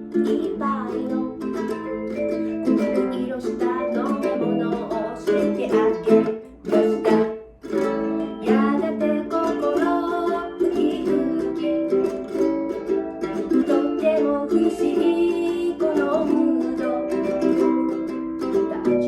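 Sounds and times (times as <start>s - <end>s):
plucked guitar strums: 0.0s - 19.0s.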